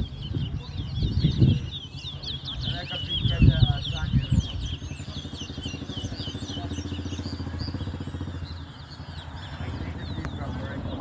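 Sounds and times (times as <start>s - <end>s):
finches chirping: 0.0s - 11.0s
motorcycle engine idling: 0.0s - 11.0s.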